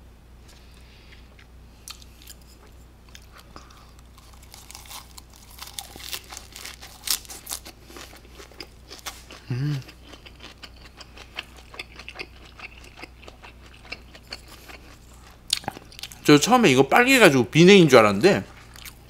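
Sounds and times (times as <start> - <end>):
crunching bites and chewing: 0.5 - 16.2.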